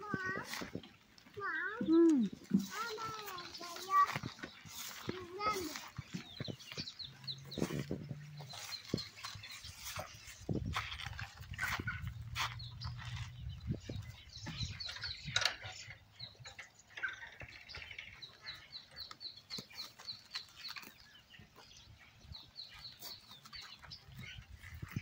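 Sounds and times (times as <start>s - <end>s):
small bird chirping: 0.0s - 25.0s.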